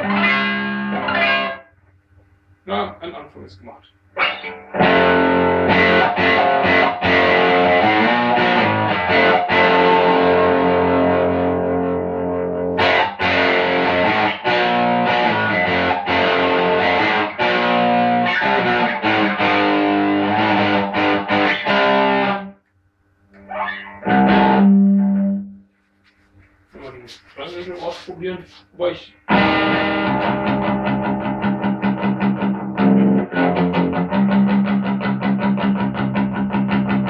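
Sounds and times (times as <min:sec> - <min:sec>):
distorted electric guitar riffs: 0:00.0 - 0:01.7, 0:04.2 - 0:22.6, 0:23.4 - 0:25.7, 0:29.3 - 0:37.0.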